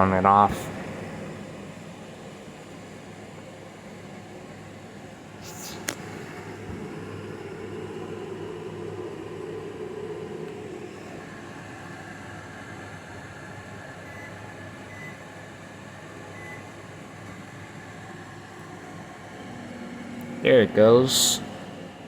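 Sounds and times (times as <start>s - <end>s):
microwave fan hum: 0.0s - 22.0s
microwave magnetron buzz: 0.0s - 22.0s.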